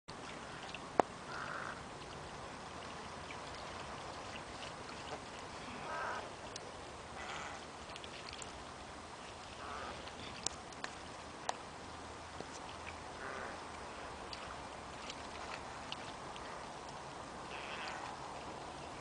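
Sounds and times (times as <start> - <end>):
shallow water splashing: 0.1 - 19.0.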